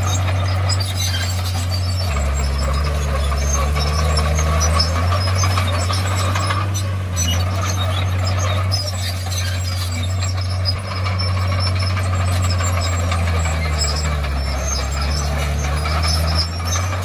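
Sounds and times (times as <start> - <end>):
bulldozer diesel engine: 0.0 - 17.0
light rattling: 0.0 - 17.0.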